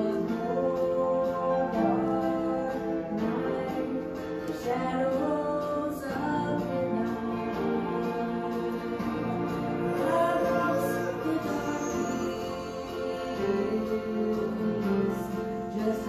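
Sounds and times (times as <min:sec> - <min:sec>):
musical accompaniment: 0:00.0 - 0:16.0
woman singing gospel song: 0:00.0 - 0:16.0.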